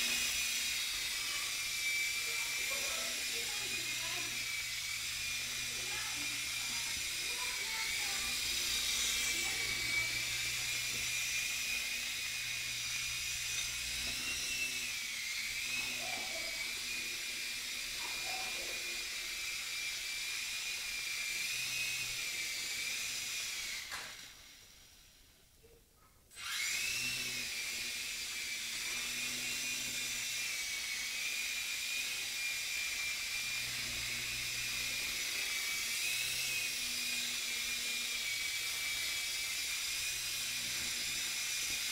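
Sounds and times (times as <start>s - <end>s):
rc helicopter motor whine: 0.0s - 25.4s, 26.3s - 41.9s.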